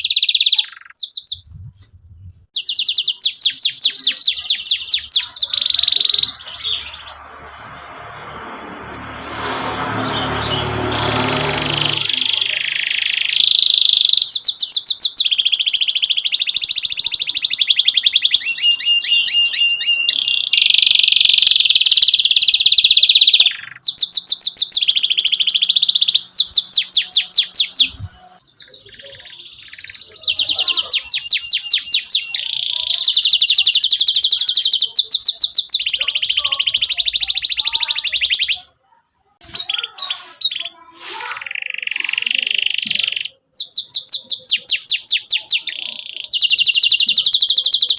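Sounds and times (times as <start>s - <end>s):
canary singing trills: 0.0s - 8.2s, 9.3s - 47.9s.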